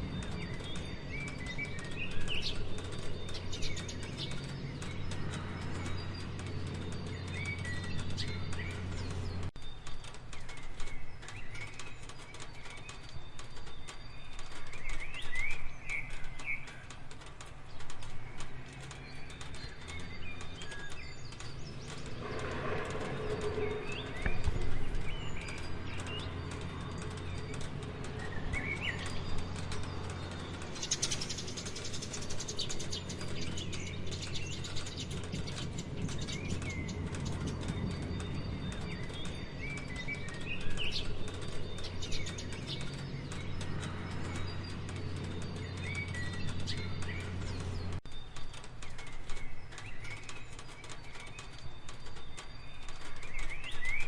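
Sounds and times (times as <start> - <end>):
rain pattering and dripping: 0.0 - 54.0
small birds chirping: 0.0 - 54.0.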